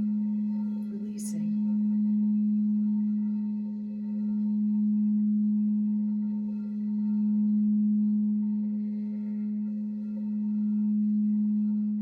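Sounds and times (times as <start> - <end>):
singing bowl humming: 0.0 - 12.0.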